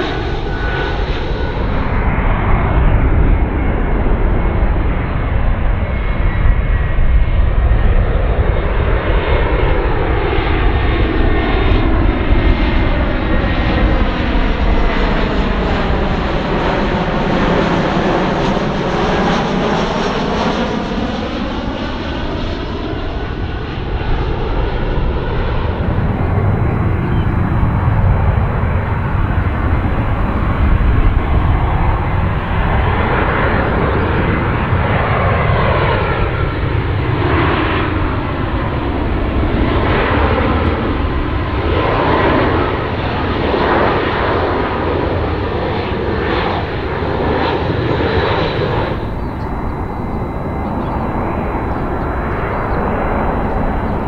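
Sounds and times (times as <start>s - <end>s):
jet airliners passing overhead: 0.0s - 54.0s.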